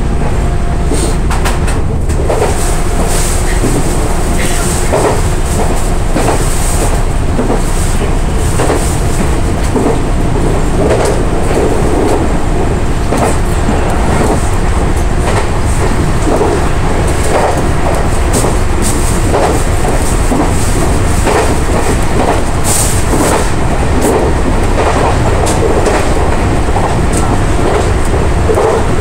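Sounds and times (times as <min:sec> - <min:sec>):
train rumble: 0:00.0 - 0:29.0
wheels clacking over track: 0:01.0 - 0:29.0.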